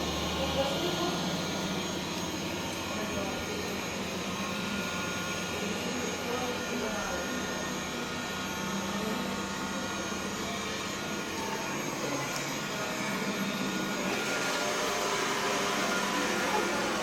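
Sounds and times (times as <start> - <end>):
high-pitched whines: 0.0 - 17.0
robot vacuum whirring: 0.0 - 17.0.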